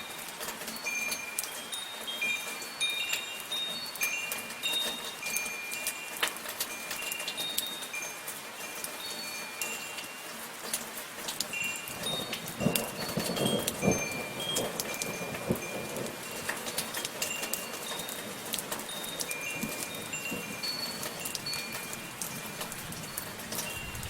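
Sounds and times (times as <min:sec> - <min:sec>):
steady falling rain: 0:00.0 - 0:24.0
wind chimes ringing: 0:00.0 - 0:24.0.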